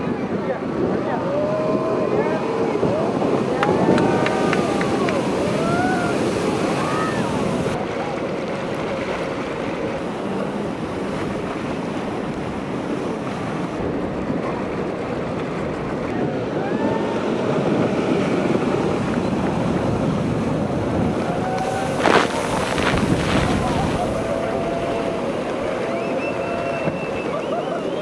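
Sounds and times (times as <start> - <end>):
ocean waves breaking: 0.0 - 28.0
wind noise on microphone: 0.0 - 28.0.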